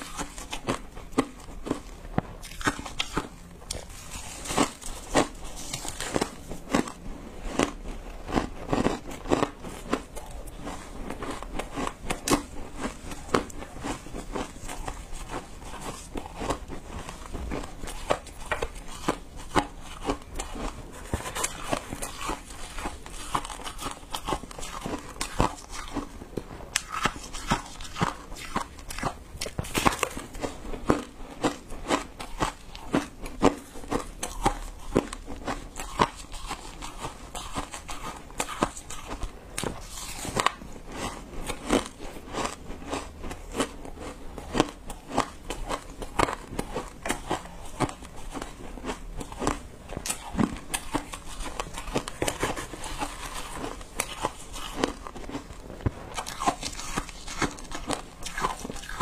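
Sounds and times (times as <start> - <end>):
shaved ice being chewed: 0.0 - 59.0.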